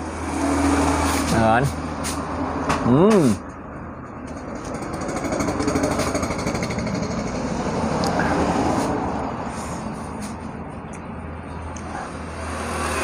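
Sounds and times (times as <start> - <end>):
rattling vehicle engine passing: 0.0 - 13.0.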